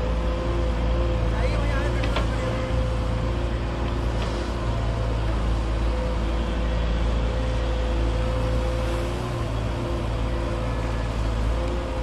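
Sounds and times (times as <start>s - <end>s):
engine low drone: 0.0s - 12.0s.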